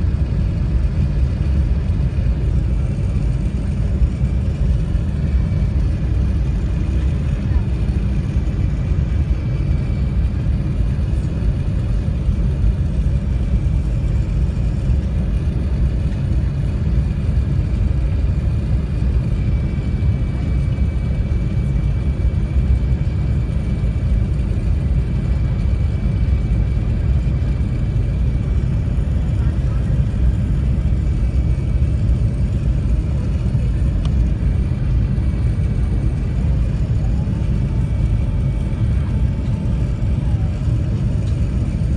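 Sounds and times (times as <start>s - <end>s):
jet engine cabin rumble: 0.0s - 41.9s.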